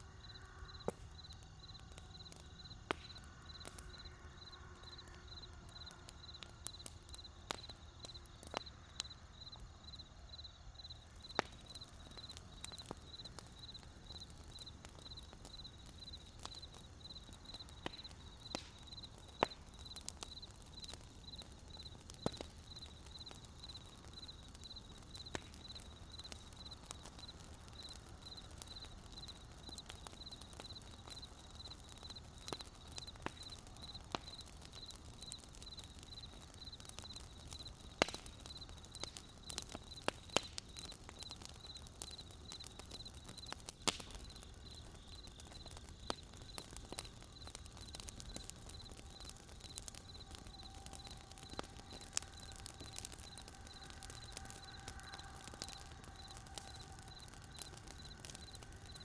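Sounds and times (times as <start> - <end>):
low rumble of fire: 0.0 - 59.0
campfire pops and snaps: 0.2 - 59.0.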